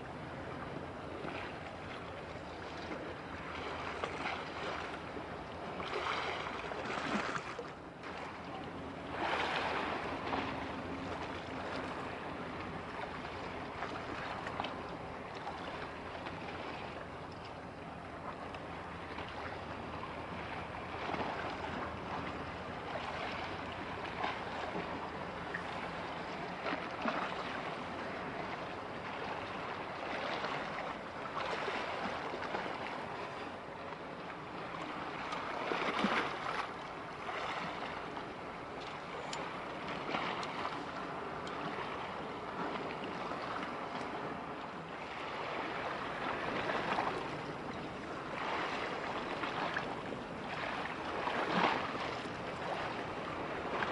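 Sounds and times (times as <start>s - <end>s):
waves: 0.0s - 53.9s
wind: 0.0s - 53.9s.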